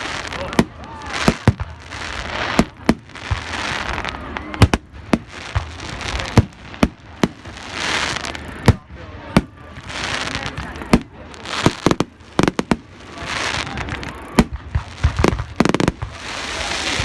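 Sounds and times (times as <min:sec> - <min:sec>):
crackling hiss of fireworks: 0:00.0 - 0:17.0
fireworks bangs: 0:00.0 - 0:17.0.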